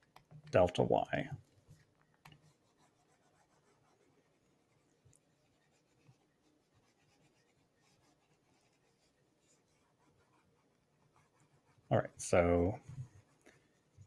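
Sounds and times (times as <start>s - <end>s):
scratching on tablet screen: 1.4s - 14.0s.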